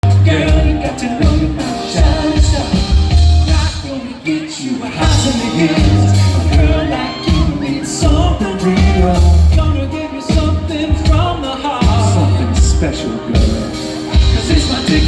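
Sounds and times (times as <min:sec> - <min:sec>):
heavy pulsing bass line: 0:00.0 - 0:03.9, 0:05.0 - 0:15.0
live band playing pop song: 0:00.0 - 0:15.0
person singing: 0:00.0 - 0:15.0.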